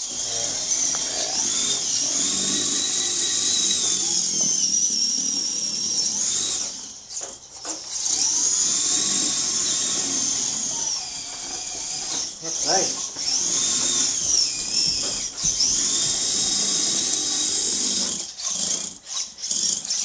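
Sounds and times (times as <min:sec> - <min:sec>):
robot motors whining: 0:00.0 - 0:20.0.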